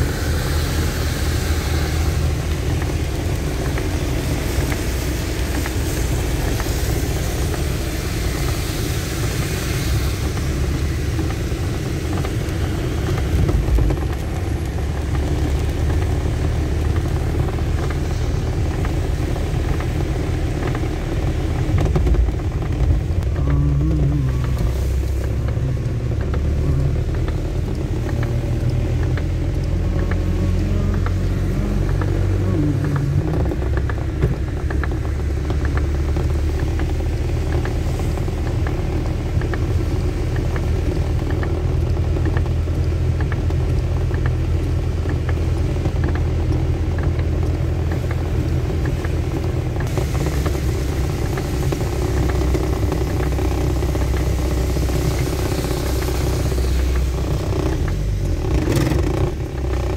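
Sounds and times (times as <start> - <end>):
car driving on wet road: 0.0 - 59.9.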